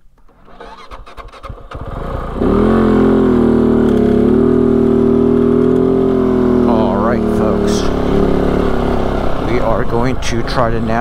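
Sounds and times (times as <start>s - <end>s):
motorcycle engine starting and idling: 0.0s - 11.0s.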